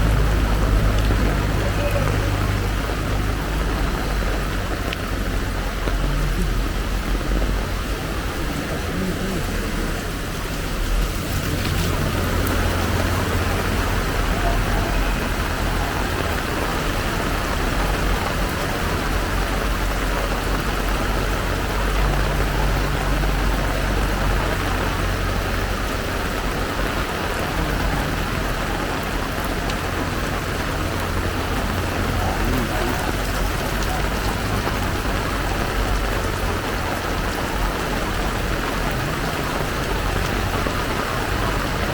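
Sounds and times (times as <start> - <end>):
heavy pouring rain: 0.0 - 41.9.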